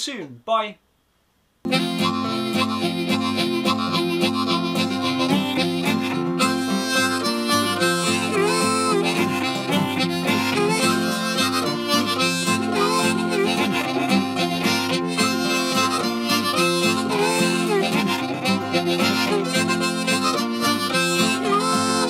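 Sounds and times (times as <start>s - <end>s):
harmonica playing a tune: 1.7s - 22.0s.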